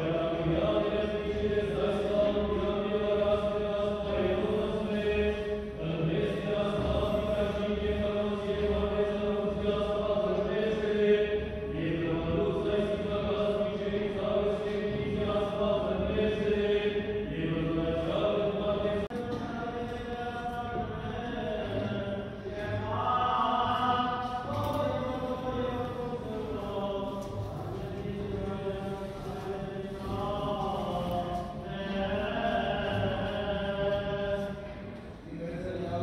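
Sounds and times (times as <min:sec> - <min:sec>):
choir chanting a hymn: 0:00.0 - 0:36.0.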